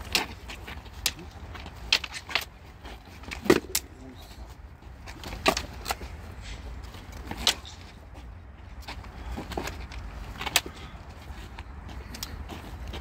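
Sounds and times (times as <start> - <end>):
practice swords clacking: 0.0 - 13.0.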